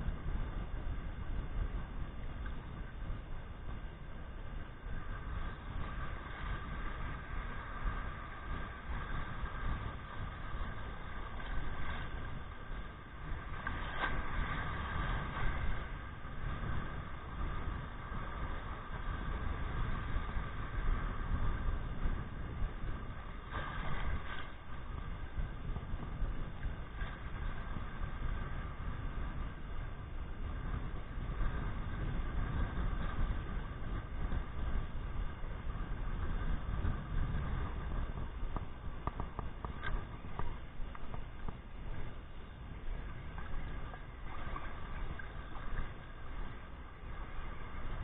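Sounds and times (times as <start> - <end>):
small surf waves: 0.0 - 48.0
wind buffeting microphone: 0.0 - 48.0.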